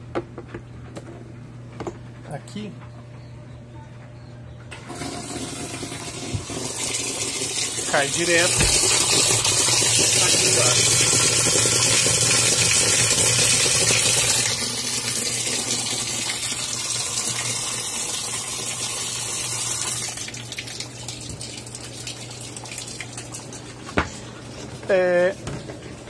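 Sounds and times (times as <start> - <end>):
tap water gushing into machine: 4.7 - 26.0.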